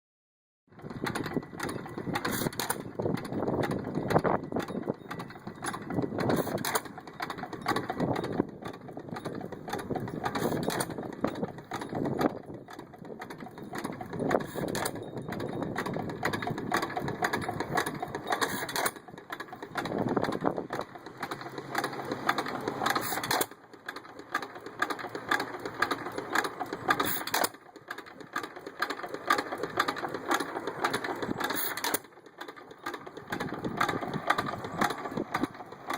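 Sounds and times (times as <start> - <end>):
stationary gas engine running: 0.8 - 35.9.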